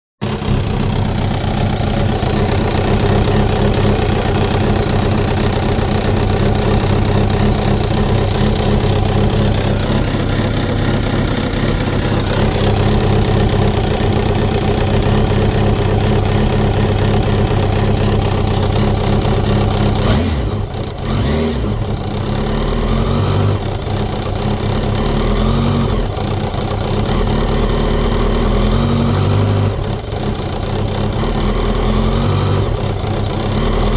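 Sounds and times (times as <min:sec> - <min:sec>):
motorcycle engine idling with knock: 0:00.2 - 0:33.9
motorcycle engine revving: 0:00.2 - 0:33.9.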